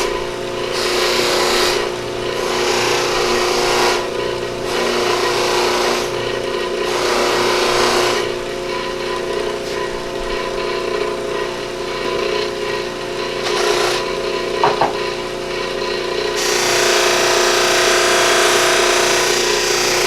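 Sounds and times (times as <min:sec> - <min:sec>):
buffer motor humming: 0:00.0 - 0:20.0.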